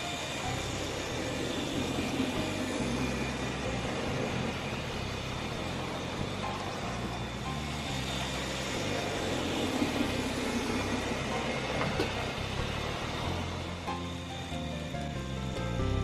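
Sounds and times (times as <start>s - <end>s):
model train motor hum: 0.0s - 16.0s
wheels clicking on track: 0.0s - 16.0s.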